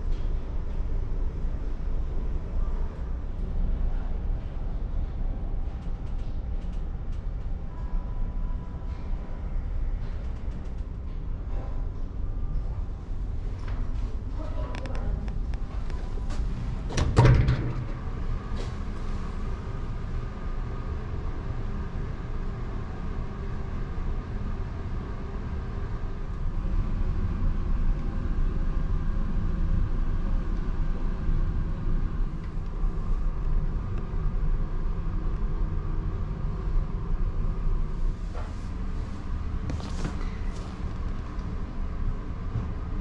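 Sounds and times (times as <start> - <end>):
ship engine low rumble: 0.0 - 43.0.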